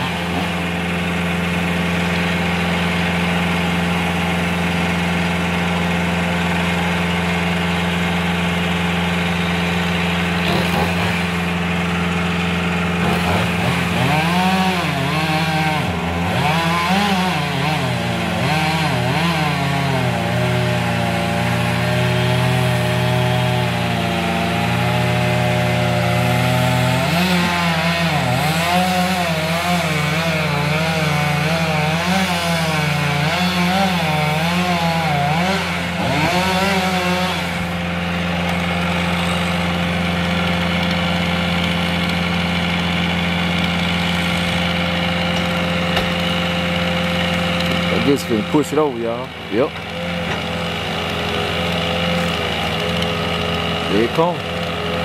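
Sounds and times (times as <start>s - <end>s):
chainsaw running: 0.0s - 55.0s.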